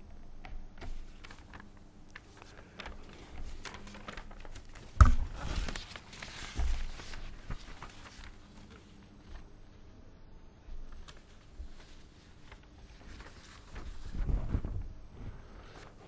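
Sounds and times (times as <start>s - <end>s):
paper rustling: 0.4s - 9.5s, 10.7s - 16.0s.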